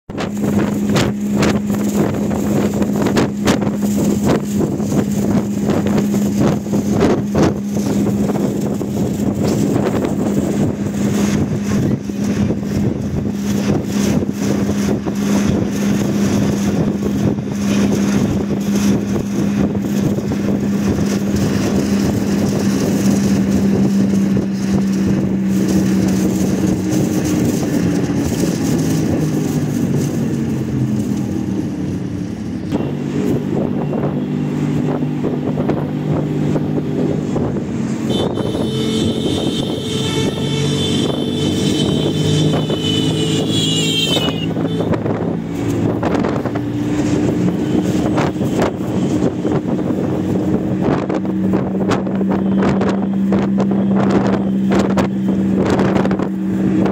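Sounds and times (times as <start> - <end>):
low engine hum: 0.0 - 56.9
road noise inside moving car: 0.1 - 56.9.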